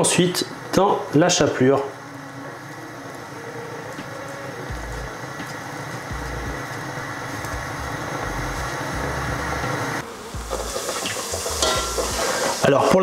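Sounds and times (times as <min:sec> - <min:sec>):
hot oil sizzling: 0:00.0 - 0:13.0
steady low hum: 0:01.9 - 0:12.4.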